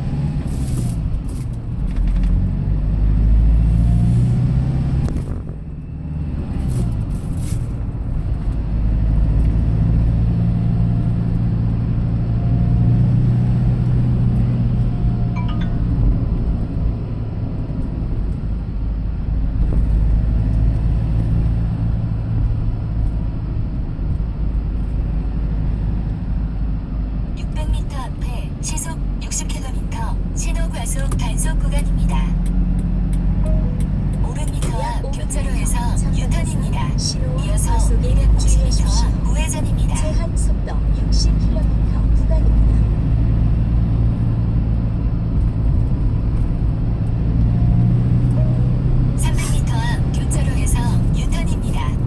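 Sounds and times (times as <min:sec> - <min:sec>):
vehicle engine and road rumble: 0:00.0 - 0:52.0.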